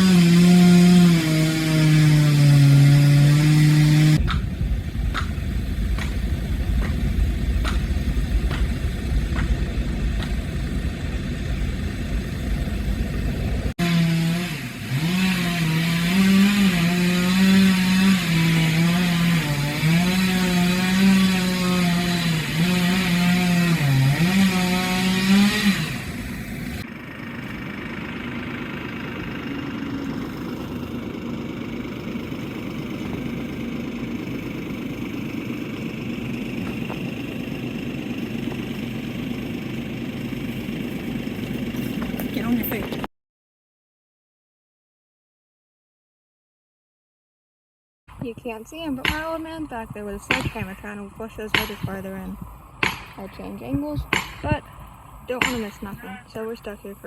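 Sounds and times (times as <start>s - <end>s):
chainsaw cutting wood: 0.0s - 26.9s, 31.3s - 43.1s, 48.1s - 56.5s.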